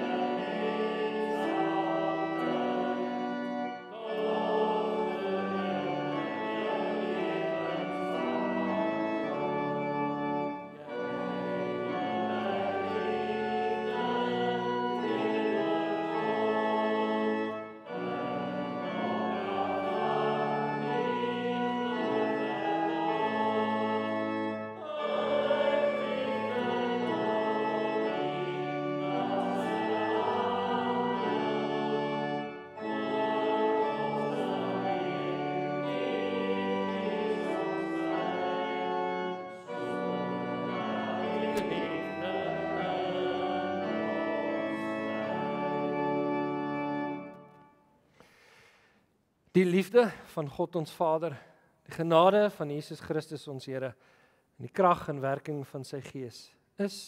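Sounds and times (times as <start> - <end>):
congregation singing a hymn: 0.0 - 47.8
church organ: 0.0 - 57.0.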